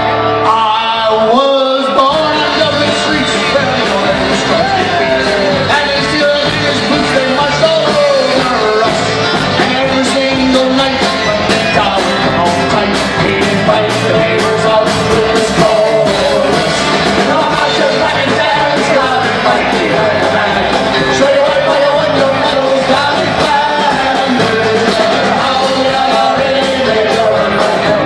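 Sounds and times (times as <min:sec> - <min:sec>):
folk-rock band playing: 0:00.0 - 0:28.0
drum hits: 0:02.1 - 0:28.0.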